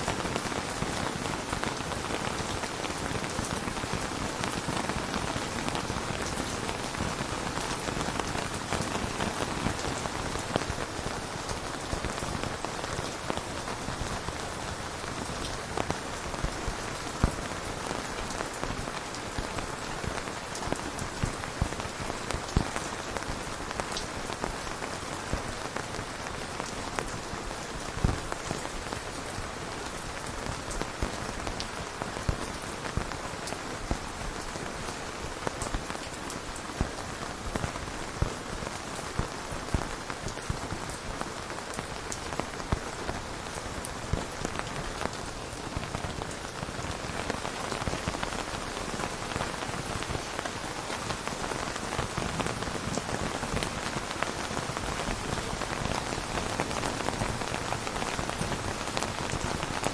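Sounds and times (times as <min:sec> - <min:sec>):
raindrops ticking: 0:00.0 - 0:59.9
steady rain hiss: 0:00.0 - 0:59.9.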